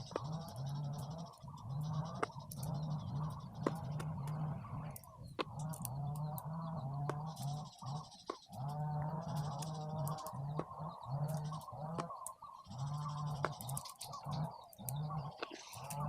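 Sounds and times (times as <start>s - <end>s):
birds calling: 0.0s - 16.0s
magnetic balls snapping together: 1.9s - 16.0s.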